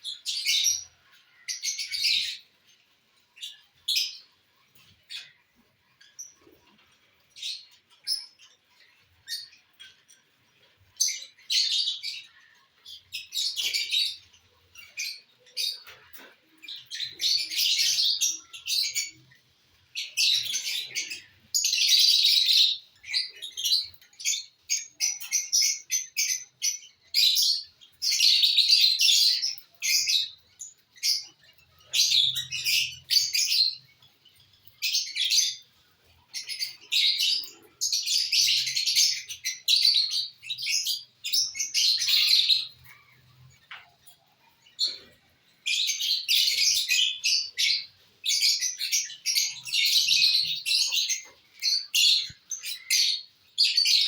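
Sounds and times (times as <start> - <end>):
lovebirds chirping and chattering: 0.0 - 54.0.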